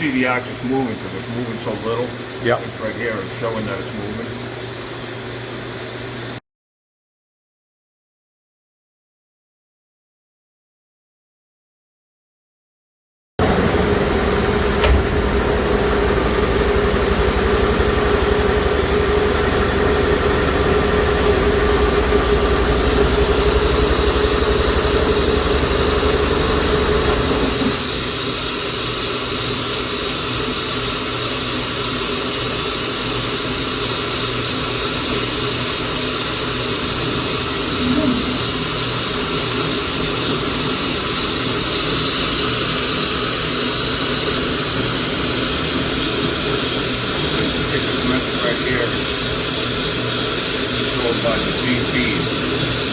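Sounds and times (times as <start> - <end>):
machining center whine and hum: 0.0 - 6.4, 13.4 - 52.9
quiet steady machine noise: 0.0 - 6.4, 13.4 - 52.9.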